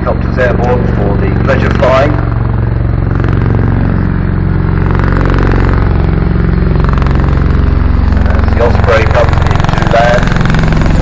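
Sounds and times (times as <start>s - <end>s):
deep engine drone: 0.0s - 11.0s
pulsing rotor beat: 0.0s - 11.0s.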